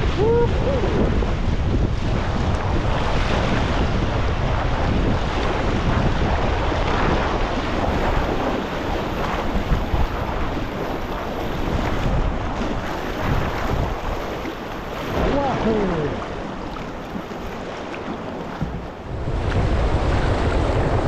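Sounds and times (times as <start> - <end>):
river water rushing: 0.0 - 20.9
wind buffeting microphone: 0.0 - 21.0.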